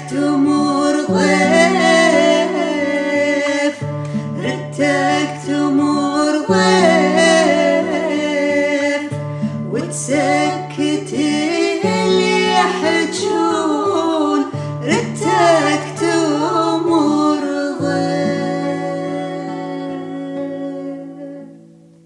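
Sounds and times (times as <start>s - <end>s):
person singing: 0.0s - 21.8s.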